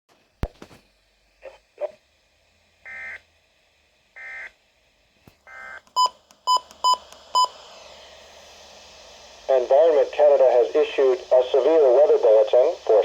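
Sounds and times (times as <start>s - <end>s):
radio hiss: 0.4s - 5.7s, 6.9s - 13.0s.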